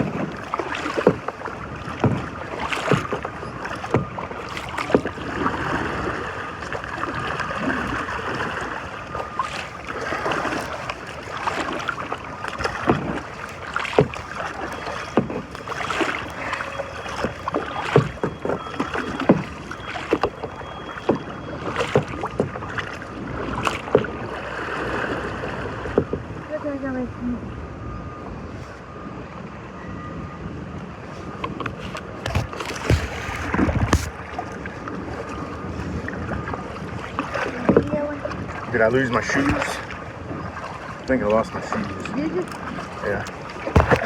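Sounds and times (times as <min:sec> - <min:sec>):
paddle strokes knocking and splashing: 0:00.0 - 0:26.5, 0:31.0 - 0:44.0
water splashing and lapping: 0:00.0 - 0:44.0.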